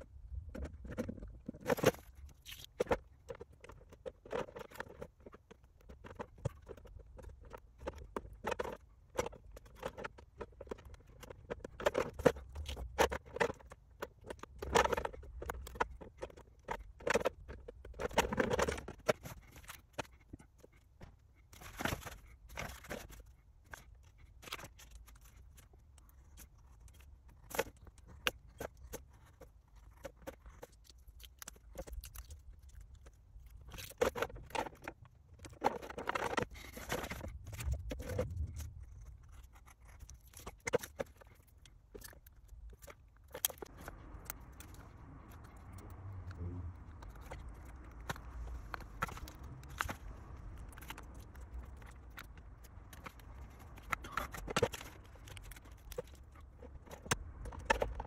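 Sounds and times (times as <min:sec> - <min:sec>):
rustling and scraping: 0:00.0 - 0:58.0
plastic parts clicking and tapping: 0:00.3 - 0:58.0.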